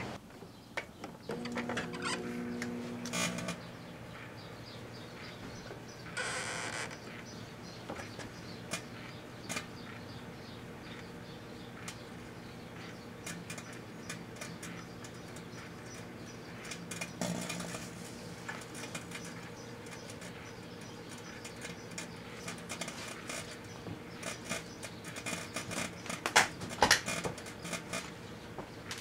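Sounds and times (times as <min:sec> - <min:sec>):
microwave oven humming: 0:00.0 - 0:00.2, 0:01.2 - 0:25.1.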